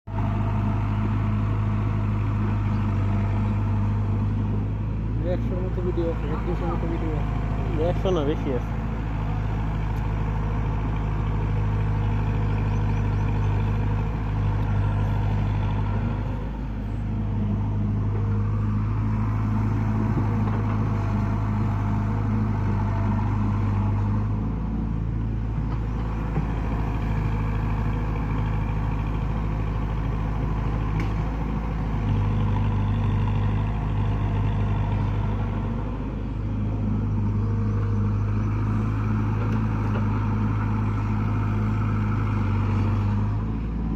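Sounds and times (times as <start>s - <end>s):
diesel engine running at high revs: 0.0s - 43.9s.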